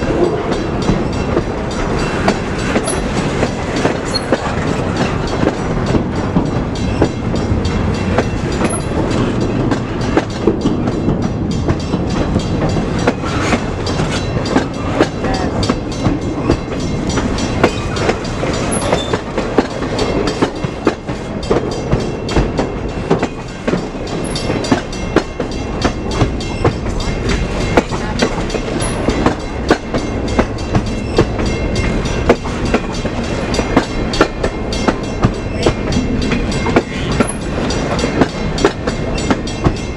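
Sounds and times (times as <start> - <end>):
freight train rumbling past: 0.0 - 39.9
wheels clicking over rail joints: 0.0 - 39.9.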